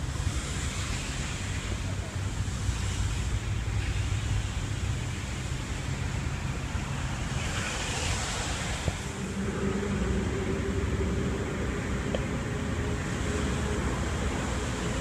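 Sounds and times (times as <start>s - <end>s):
rain hiss: 0.0s - 15.0s
wheels on wet path: 0.0s - 15.0s
wind buffeting microphone: 0.0s - 15.0s.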